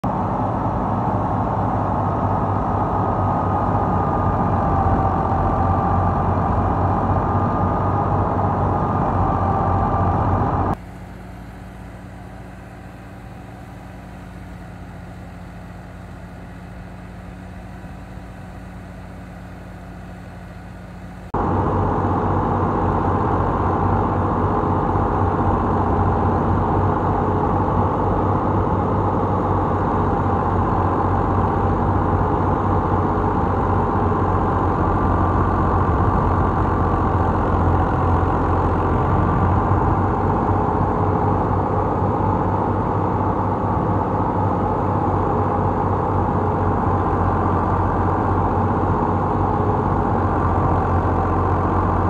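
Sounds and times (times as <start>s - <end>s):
tractor driving thresher hum: 0.0s - 52.0s
tractor engine and threshing drum: 0.0s - 52.0s.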